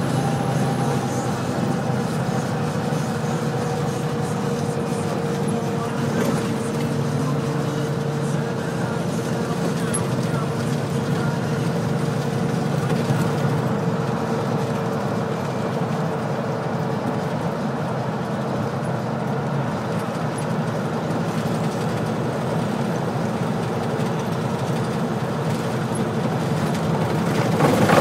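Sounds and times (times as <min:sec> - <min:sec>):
truck diesel engine: 0:00.0 - 0:28.0.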